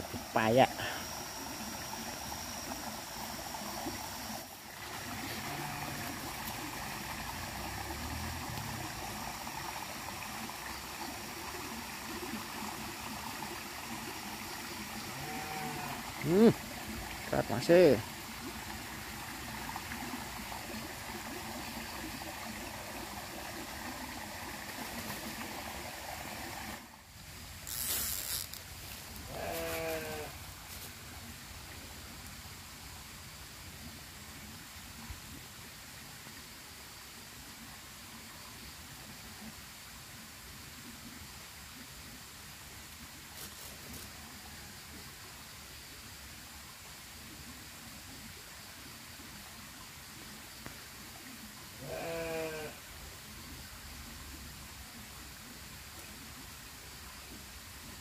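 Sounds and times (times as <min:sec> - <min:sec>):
faint steady hiss: 0:00.0 - 0:58.0
stream running over rocks: 0:00.0 - 0:58.0.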